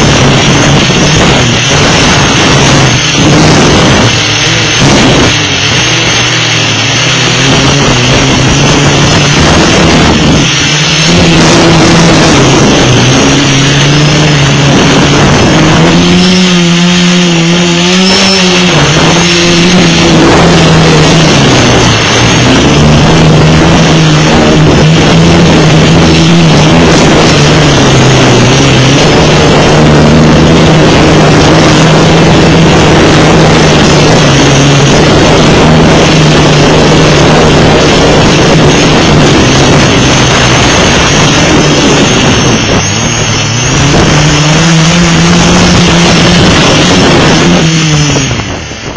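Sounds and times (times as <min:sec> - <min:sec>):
drone motors buzzing: 0:00.0 - 0:48.9.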